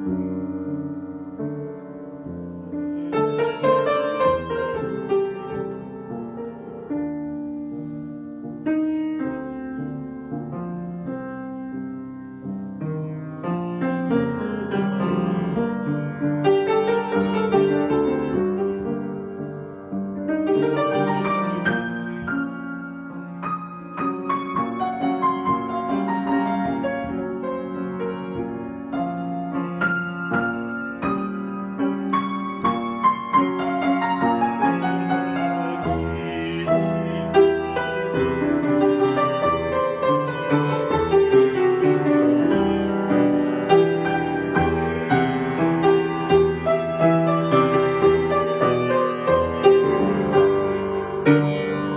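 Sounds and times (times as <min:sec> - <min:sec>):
solo piano: 0:00.0 - 0:51.9.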